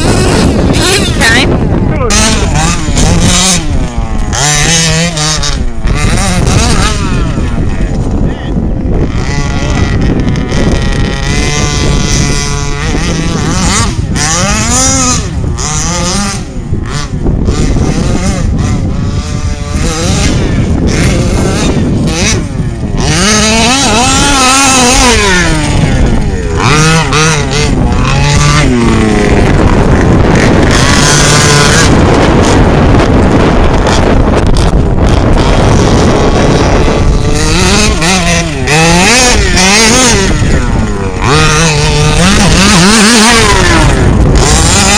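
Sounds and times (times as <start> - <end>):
two-stroke engine revving: 0.0 - 44.9.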